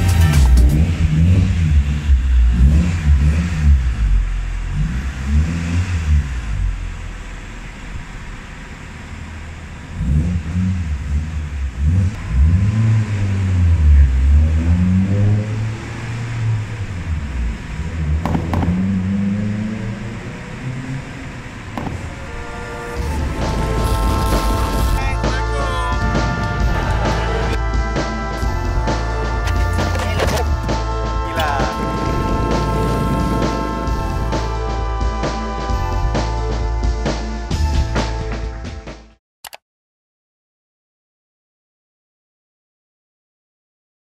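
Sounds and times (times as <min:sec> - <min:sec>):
car engine revving: 0:00.0 - 0:38.1.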